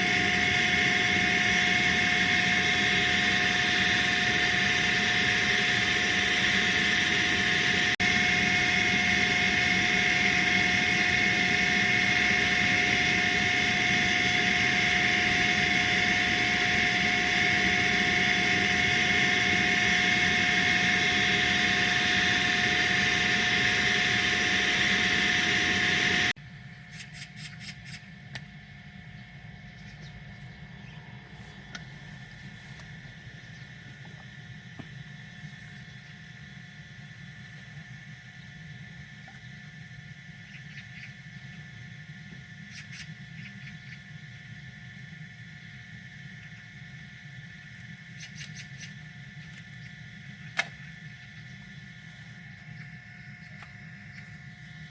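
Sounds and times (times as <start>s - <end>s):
log-splitting machine droning: 0.0s - 54.9s.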